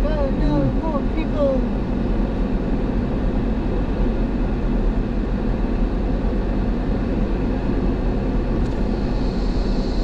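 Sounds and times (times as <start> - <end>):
pickup truck engine: 0.0 - 10.0
road noise: 0.0 - 10.0.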